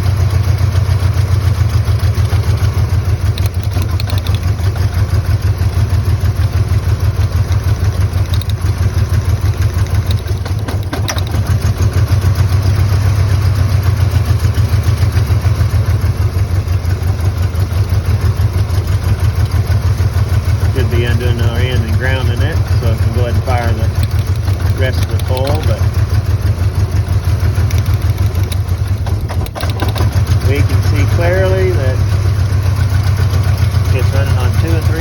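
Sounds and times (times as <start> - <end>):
engine idling roughly: 0.0 - 35.0.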